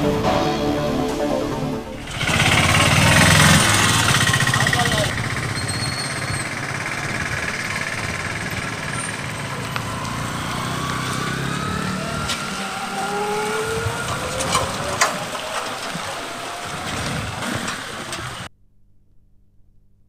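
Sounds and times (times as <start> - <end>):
vehicle engines passing: 1.1 - 18.5.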